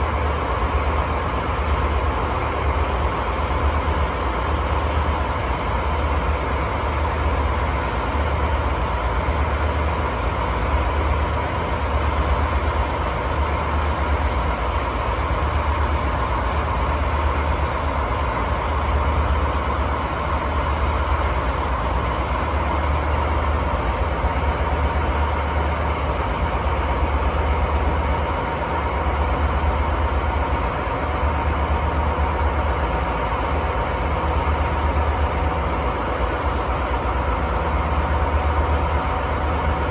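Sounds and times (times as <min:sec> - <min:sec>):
locomotive diesel engine drone: 0:00.0 - 0:39.9
steady engine whine: 0:00.0 - 0:39.9.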